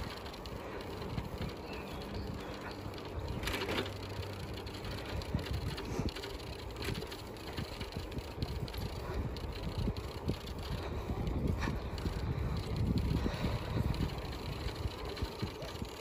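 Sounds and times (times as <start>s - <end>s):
rolling rumble on paved path: 0.0s - 16.0s
wind buffeting microphone: 0.0s - 16.0s.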